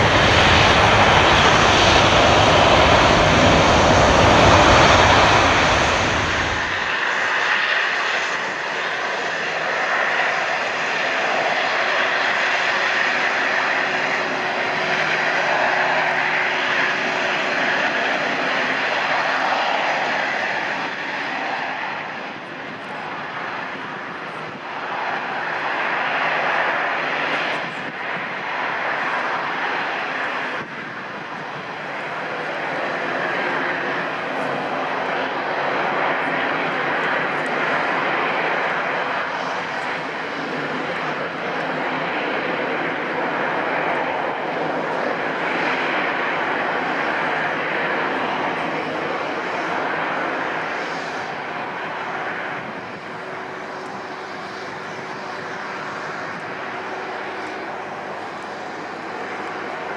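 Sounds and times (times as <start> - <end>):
propfan engines running: 0.0 - 59.9.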